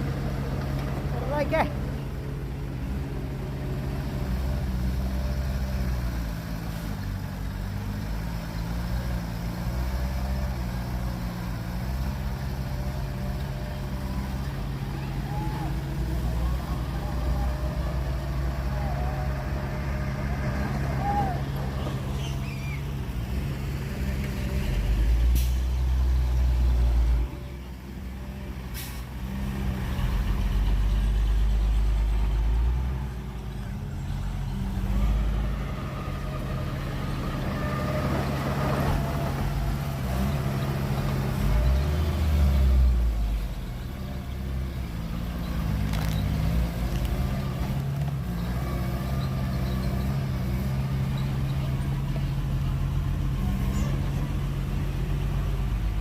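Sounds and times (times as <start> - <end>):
heavy diesel engines revving: 0.0 - 56.0.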